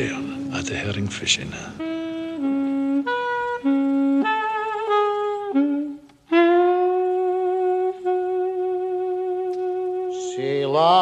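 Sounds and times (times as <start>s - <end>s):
wind instrument slow melody: 0.0s - 11.0s.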